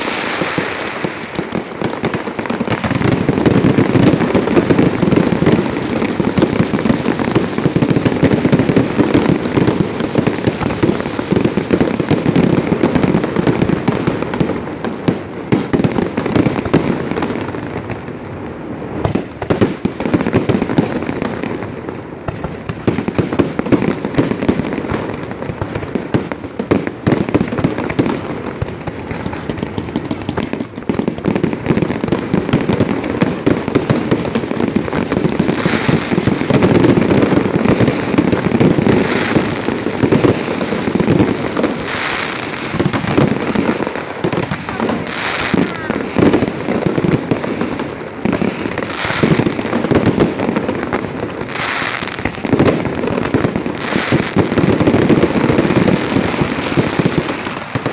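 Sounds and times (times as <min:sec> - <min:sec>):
fireworks banging and crackling: 0:00.0 - 0:57.9.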